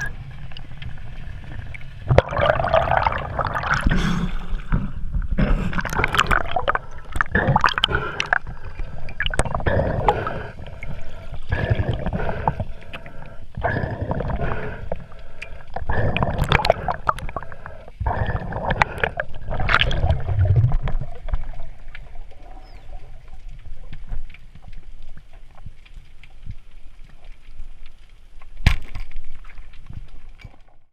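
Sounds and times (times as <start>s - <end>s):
water sloshing and splashing: 0.0s - 30.9s.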